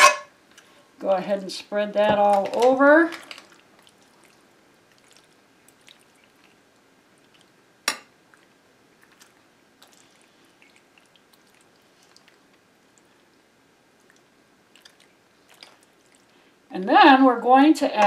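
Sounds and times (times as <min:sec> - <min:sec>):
pasta squelching: 0:01.9 - 0:17.1.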